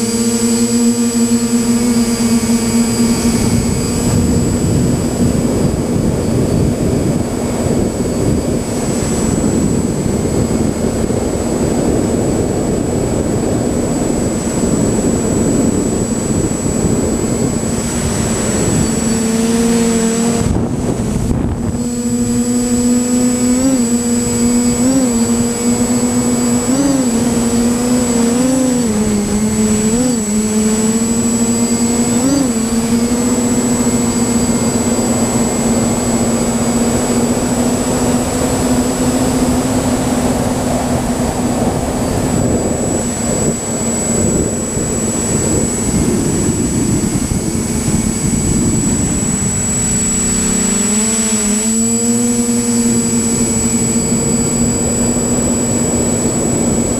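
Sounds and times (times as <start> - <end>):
drone motors buzzing: 0.0 - 56.9
wind over microphone: 0.0 - 56.9.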